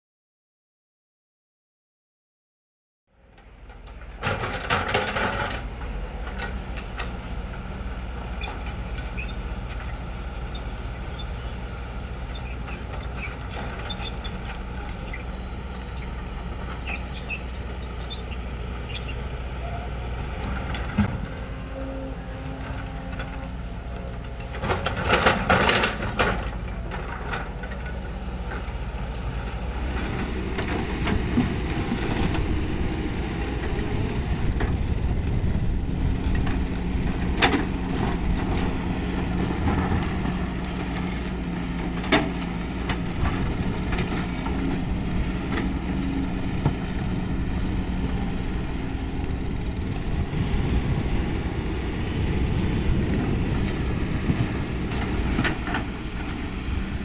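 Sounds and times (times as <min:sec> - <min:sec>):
excavator diesel engine running: 0:03.2 - 0:57.0.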